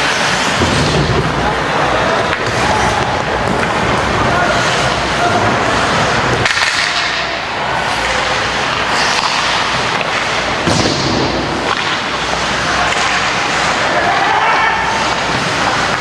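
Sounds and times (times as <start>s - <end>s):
skates scraping ice: 0.0s - 16.0s.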